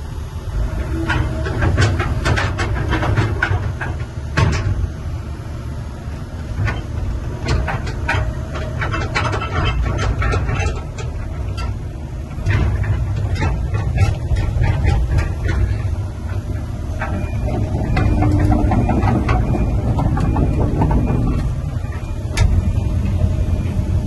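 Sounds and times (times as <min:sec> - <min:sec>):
excavator diesel engine running: 0:00.0 - 0:24.0
sharp clicks and knocks: 0:01.0 - 0:04.8, 0:06.6 - 0:22.6.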